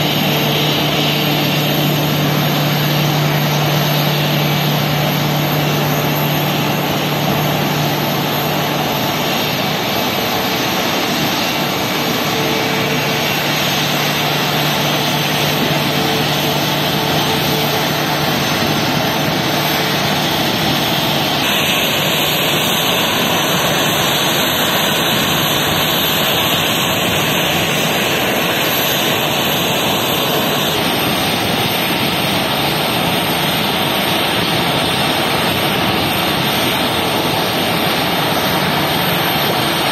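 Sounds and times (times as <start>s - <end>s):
low hum: 0.0s - 32.8s
jet engines idling: 0.0s - 39.9s.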